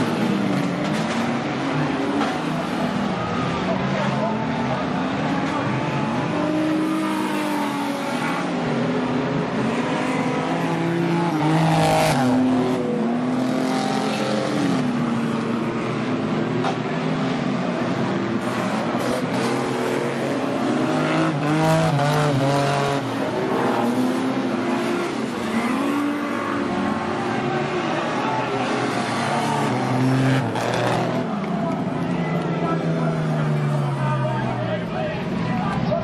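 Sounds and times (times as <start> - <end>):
stock car engines racing: 0.0 - 36.0.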